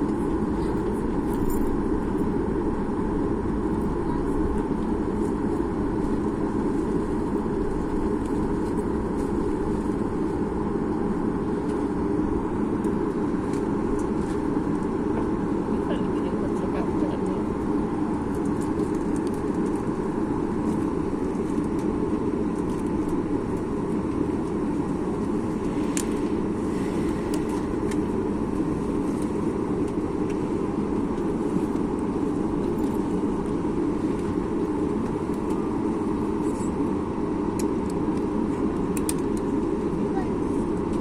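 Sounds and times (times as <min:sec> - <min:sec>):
airplane cabin rumble: 0:00.0 - 0:41.0.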